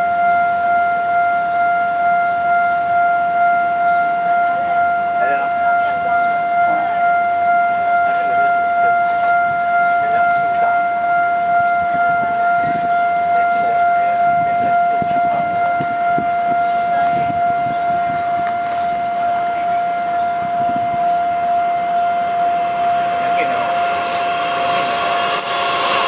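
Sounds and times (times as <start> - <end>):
level crossing alarm tone: 0.0 - 26.0.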